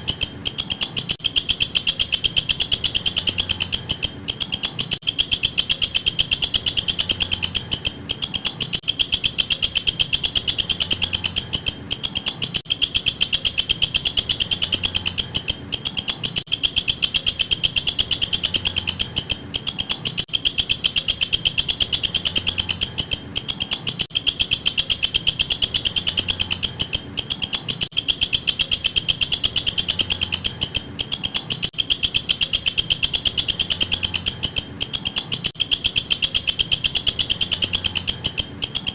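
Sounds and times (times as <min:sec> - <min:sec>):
bush cricket pulsed trill: 0:00.0 - 0:38.9.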